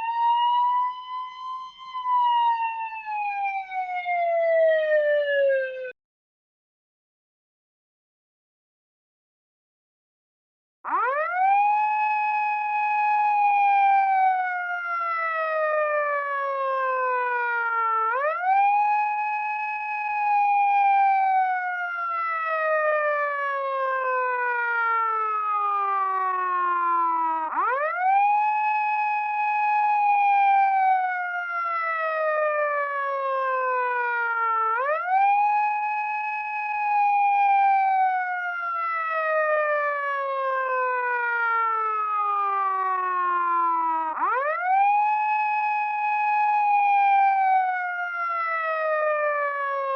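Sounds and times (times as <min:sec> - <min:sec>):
wailing siren: 0:00.0 - 0:06.0, 0:10.8 - 0:49.9.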